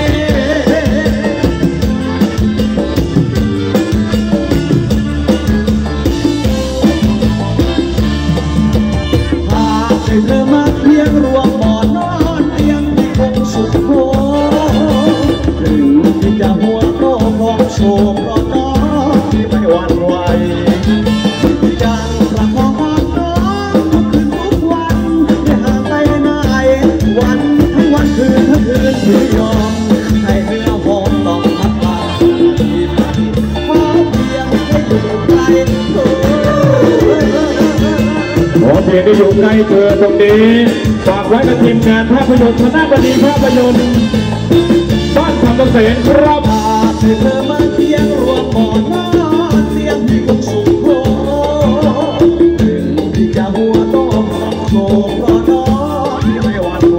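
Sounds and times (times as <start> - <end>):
live band with drums and percussion: 0.0 - 56.9
man singing into a microphone: 0.0 - 56.9.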